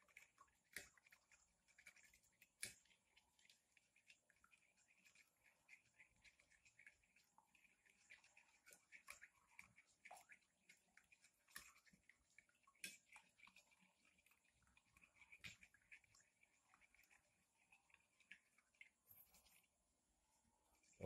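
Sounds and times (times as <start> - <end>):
spoon beating egg on plate: 0.0 - 19.6.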